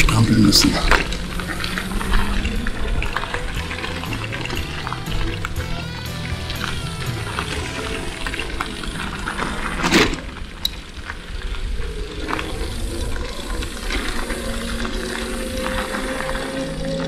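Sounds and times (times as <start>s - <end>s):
bicycle tyres rolling: 0.0s - 17.0s
bike rattling: 0.8s - 17.0s.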